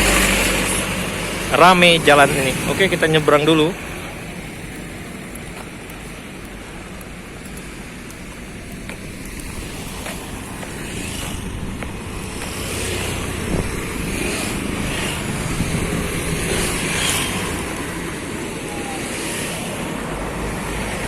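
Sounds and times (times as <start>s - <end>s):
road traffic passing: 0.0s - 21.0s
wind buffeting microphone: 0.0s - 21.0s.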